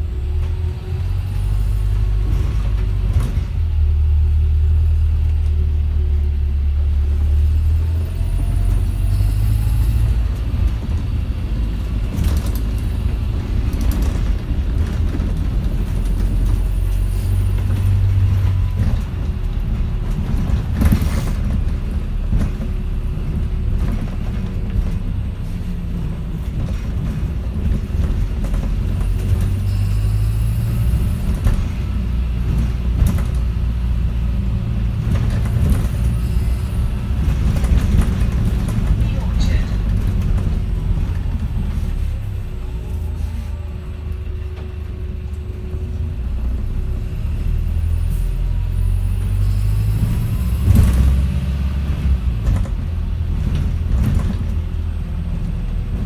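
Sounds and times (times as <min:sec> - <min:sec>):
bus body rattles and knocks: 0:00.0 - 0:09.1, 0:10.0 - 0:42.6, 0:49.6 - 0:56.0
bus drivetrain rumble: 0:00.0 - 0:56.0.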